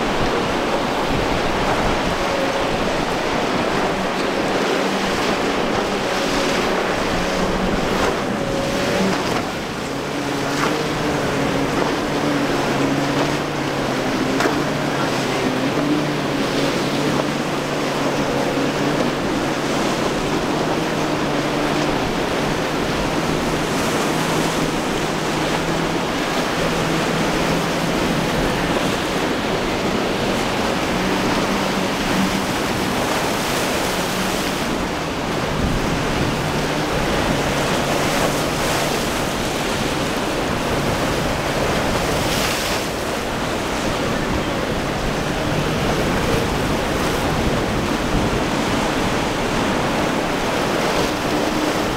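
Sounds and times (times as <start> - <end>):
outboard motor humming: 0.0 - 51.9
waves breaking: 0.0 - 51.9
wind buffeting microphone: 0.0 - 51.9.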